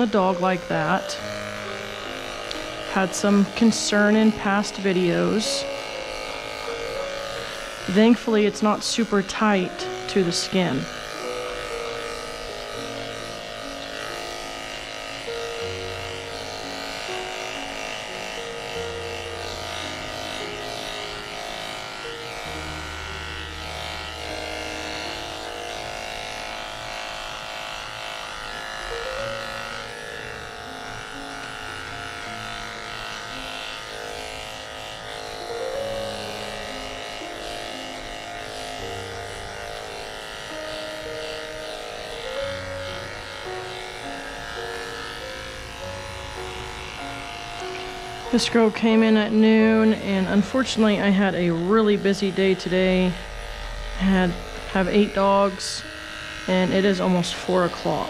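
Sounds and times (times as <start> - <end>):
background music: 0.0 - 58.0
electric clippers buzzing: 0.0 - 58.0.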